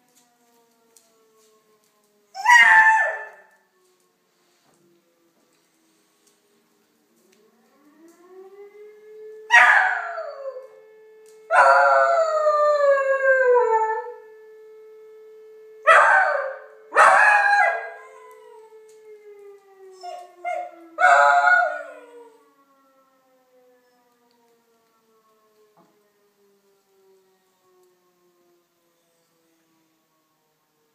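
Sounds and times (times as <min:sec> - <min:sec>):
siren wailing: 0:00.0 - 0:30.9.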